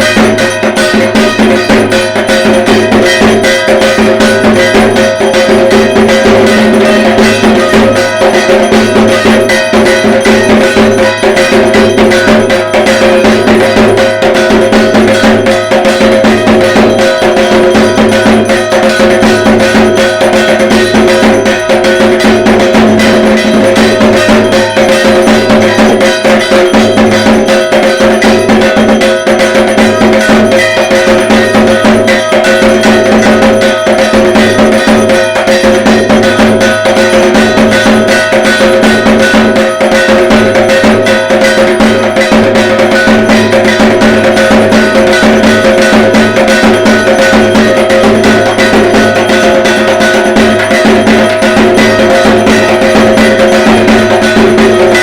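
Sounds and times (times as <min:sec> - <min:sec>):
barrel drum beaten rapidly: 0:00.0 - 0:55.0.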